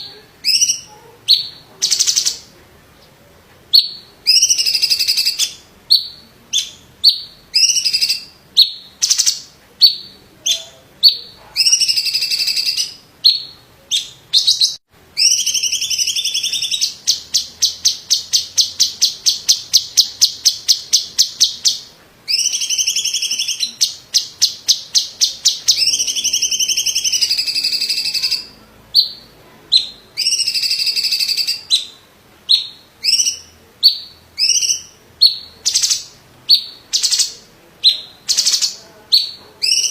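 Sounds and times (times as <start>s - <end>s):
bird singing loudly: 0.0s - 2.5s, 3.7s - 39.9s.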